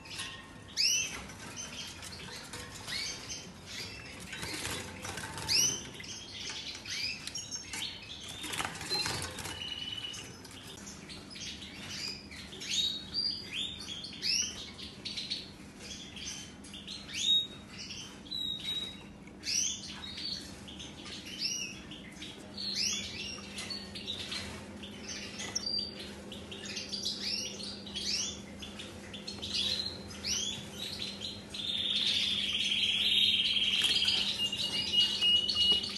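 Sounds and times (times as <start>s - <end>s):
finches twittering and singing: 0.0s - 35.9s.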